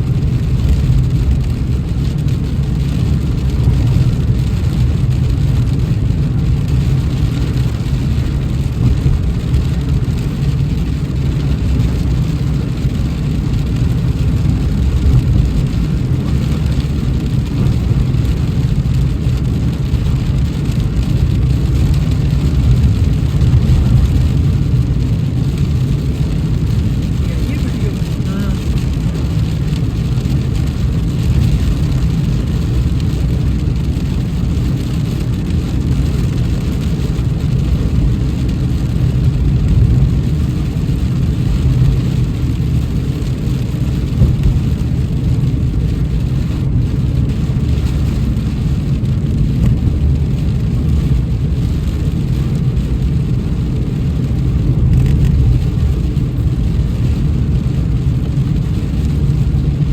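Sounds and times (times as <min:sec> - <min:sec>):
car road and engine rumble: 0:00.0 - 0:59.9
heavy rain: 0:00.0 - 0:59.9.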